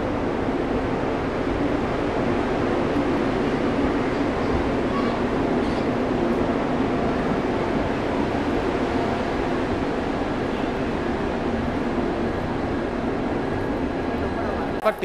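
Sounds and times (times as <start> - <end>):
train running on track: 0.0 - 15.0.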